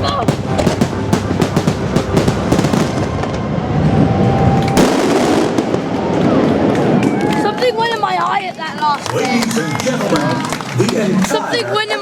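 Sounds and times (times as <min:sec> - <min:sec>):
fireworks bursting and crackling: 0:00.0 - 0:10.8.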